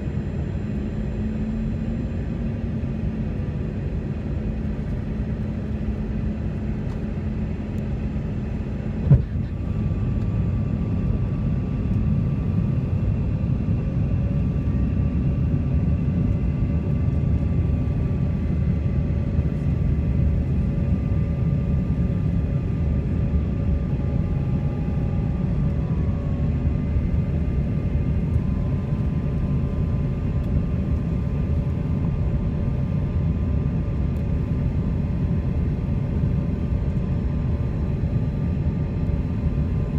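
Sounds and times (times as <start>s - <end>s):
airliner engines rumbling in cabin: 0.0s - 39.9s.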